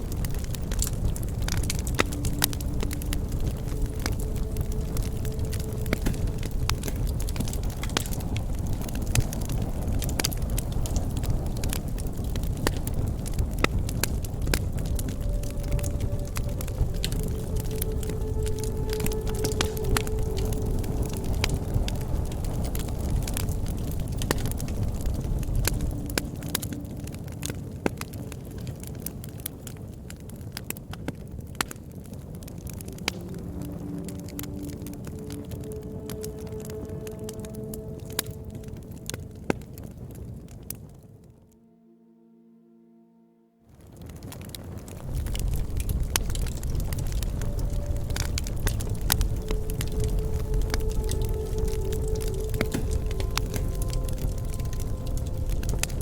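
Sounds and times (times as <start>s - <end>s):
burning wood popping and crackling: 0.0s - 41.2s, 43.7s - 56.0s
campfire rumbling: 0.0s - 41.5s, 43.7s - 56.0s.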